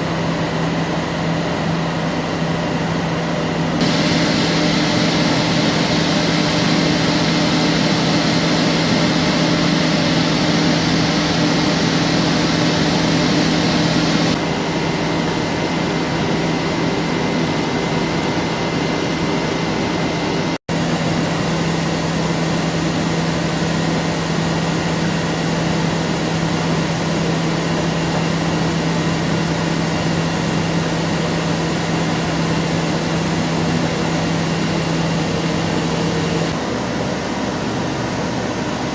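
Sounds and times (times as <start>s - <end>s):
lathe machine hum: 0.0s - 38.9s.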